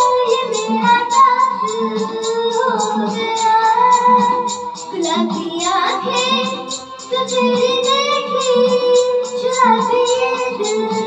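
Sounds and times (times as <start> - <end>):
backing track with ticking beat: 0.0 - 11.0
boy singing into a microphone: 0.0 - 11.0.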